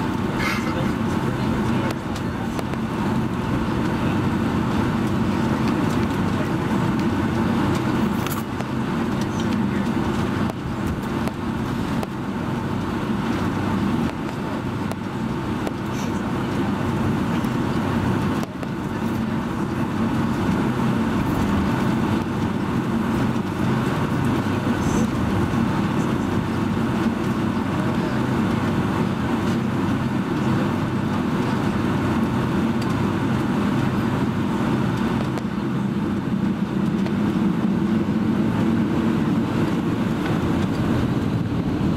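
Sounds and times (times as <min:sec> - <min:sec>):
jet engine cabin drone: 0:00.0 - 0:41.9.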